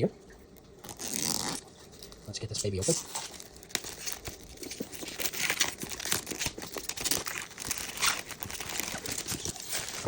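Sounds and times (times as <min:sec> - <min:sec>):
plastic shrink-wrap tearing: 0:00.8 - 0:01.7, 0:02.6 - 0:10.0.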